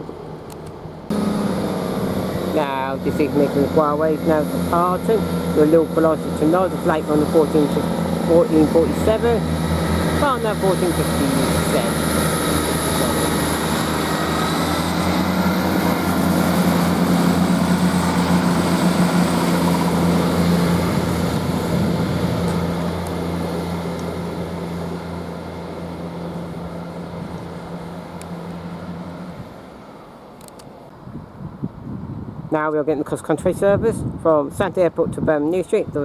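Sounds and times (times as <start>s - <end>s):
train diesel engines droning: 0.0s - 30.9s.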